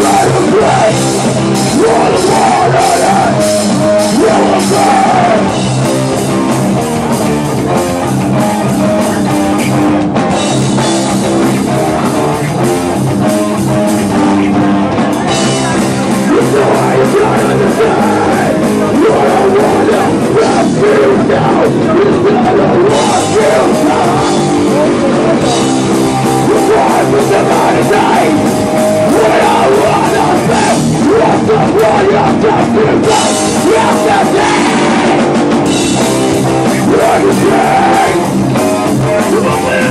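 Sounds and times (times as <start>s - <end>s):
fast drum kit: 0.0s - 39.9s
hardcore band playing live: 0.0s - 39.9s.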